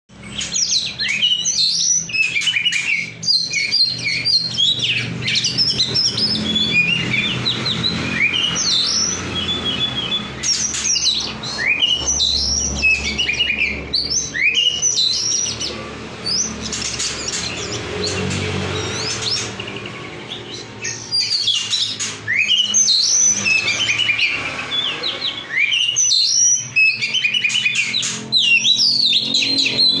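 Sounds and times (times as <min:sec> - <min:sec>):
bird singing whistles and trills: 0:00.1 - 0:30.0.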